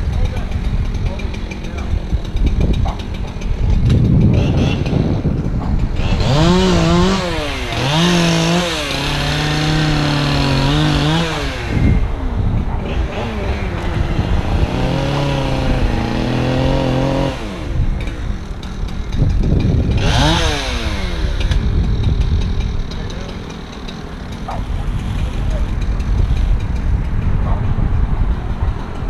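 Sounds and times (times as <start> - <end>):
chainsaw revving: 0.0 - 27.3.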